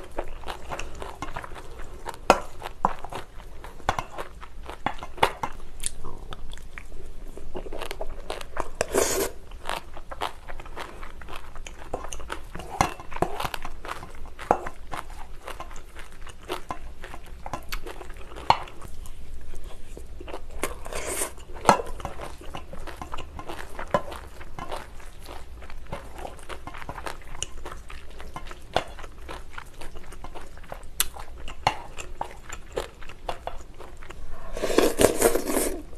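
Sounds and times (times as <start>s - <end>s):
chewing and crunching: 0.0s - 35.9s.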